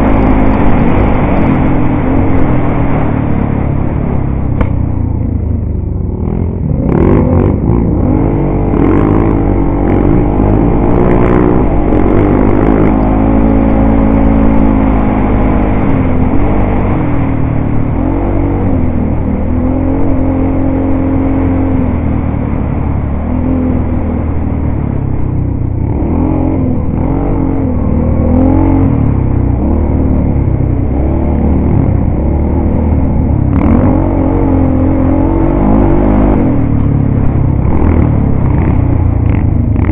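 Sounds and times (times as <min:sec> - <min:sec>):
atv engine revving: 0:00.0 - 0:39.9
wind rumble: 0:00.0 - 0:39.9.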